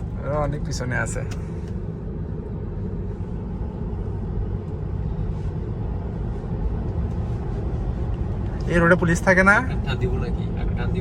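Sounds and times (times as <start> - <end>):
road and tyre rumble in car: 0.0 - 11.0.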